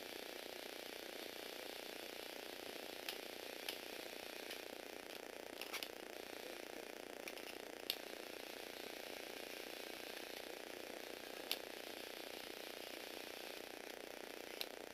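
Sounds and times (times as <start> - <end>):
toy car motor whirring: 0.0 - 14.9.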